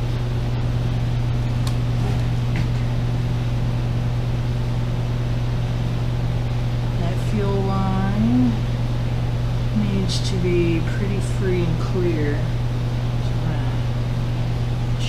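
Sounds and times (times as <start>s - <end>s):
drum fan humming: 0.0s - 15.0s.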